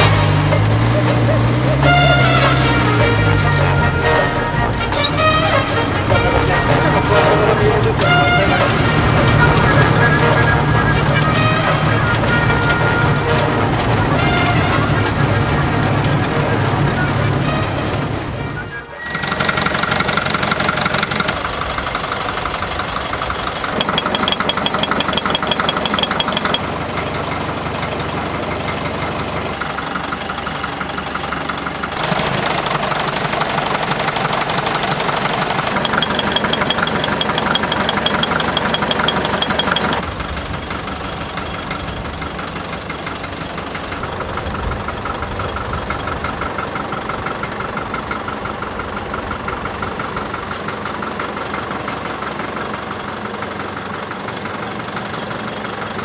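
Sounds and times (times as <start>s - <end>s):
diesel engine idling with clatter: 0.0s - 56.0s.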